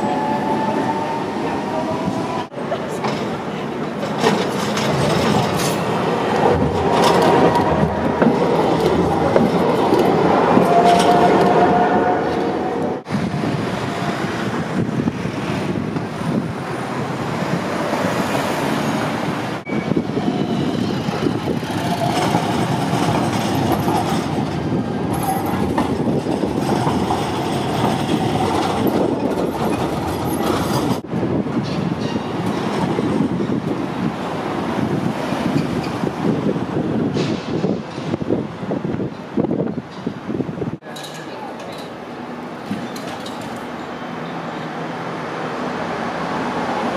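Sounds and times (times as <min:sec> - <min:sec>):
tram wheels rumbling on rail: 0:00.0 - 0:46.9.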